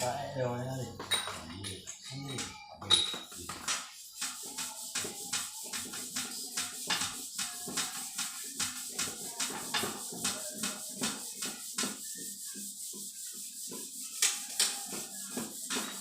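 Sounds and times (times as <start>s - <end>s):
rhythmic rubbing strokes: 0.0s - 16.0s.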